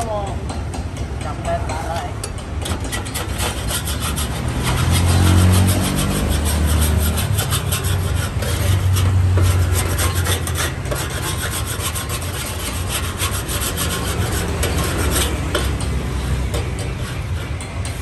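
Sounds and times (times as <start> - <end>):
metal spatula scraping steel pan: 2.6 - 18.0.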